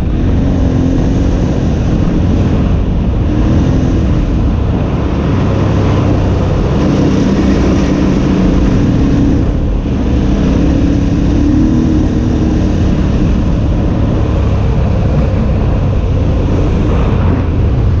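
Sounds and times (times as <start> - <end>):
motorcycle engine running: 0.0 - 18.0
wind noise on microphone: 0.0 - 18.0.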